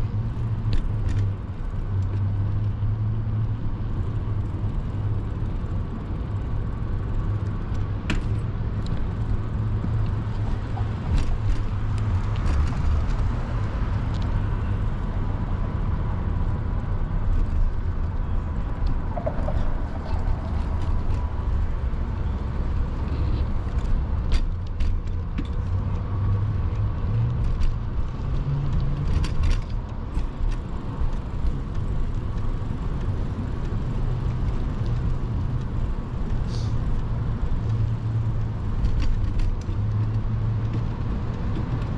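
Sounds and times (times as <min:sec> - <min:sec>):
street traffic rumble: 0:00.0 - 0:41.9.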